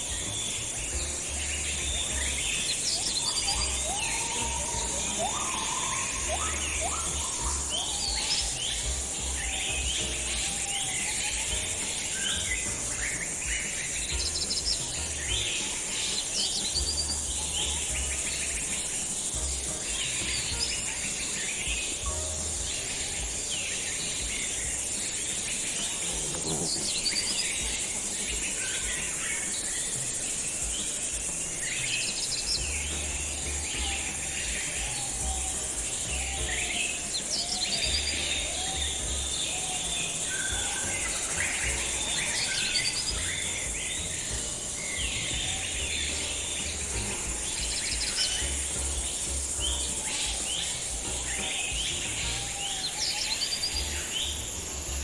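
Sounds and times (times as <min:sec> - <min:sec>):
birds chirping and trilling: 0:00.0 - 0:55.0
high insect drone: 0:00.0 - 0:55.0.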